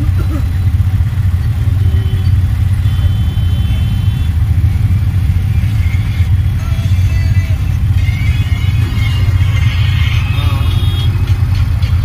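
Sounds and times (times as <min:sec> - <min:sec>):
auto-rickshaw engine idling: 0:00.0 - 0:12.0.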